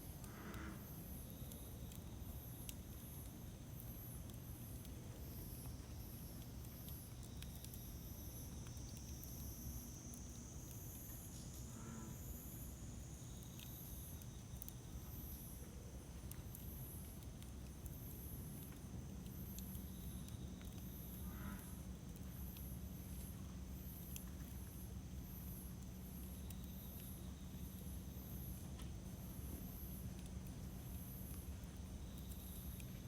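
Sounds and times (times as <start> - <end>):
campfire crackling: 0.0 - 11.7, 12.3 - 33.0.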